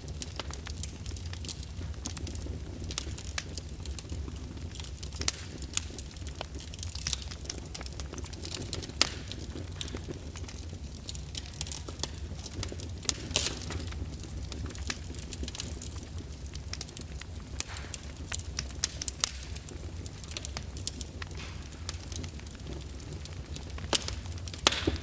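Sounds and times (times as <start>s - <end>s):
fire crackling and popping: 0.0s - 25.0s
low fire rumble: 0.0s - 25.0s.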